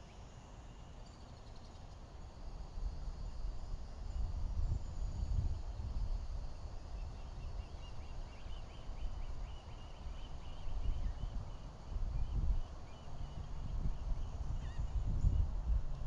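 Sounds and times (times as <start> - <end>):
wind rumble on microphone: 2.4 - 16.0.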